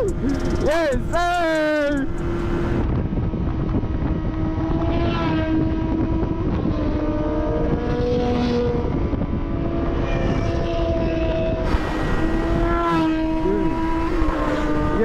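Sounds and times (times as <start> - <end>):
motorcycle engine cruising: 0.0 - 15.0
rush of riding noise: 0.0 - 15.0.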